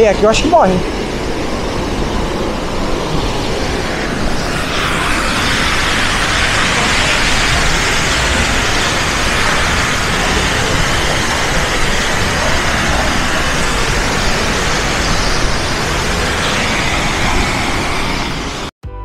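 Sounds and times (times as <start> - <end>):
waterfall roaring: 0.0 - 18.7.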